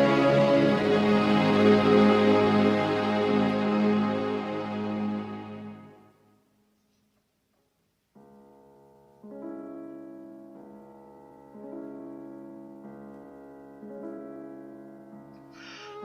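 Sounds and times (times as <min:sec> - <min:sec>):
piano keyboard chords: 0:00.0 - 0:06.2, 0:08.1 - 0:16.0.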